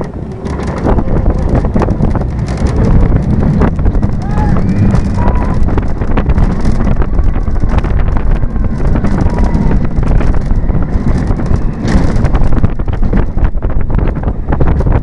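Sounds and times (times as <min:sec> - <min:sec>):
roller coaster wheels rattling on track: 0:00.0 - 0:15.0
wind buffeting microphone: 0:00.0 - 0:15.0.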